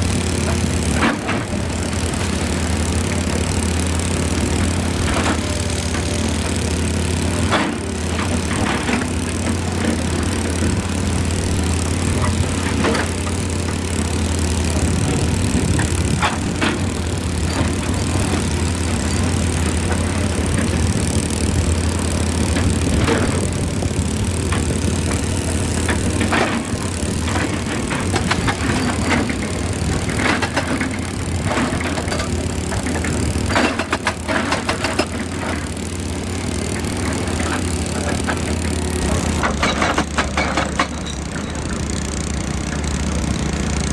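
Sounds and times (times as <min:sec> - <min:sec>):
excavator diesel engine running: 0:00.0 - 0:43.9
machine knocks and clanks: 0:00.2 - 0:43.9.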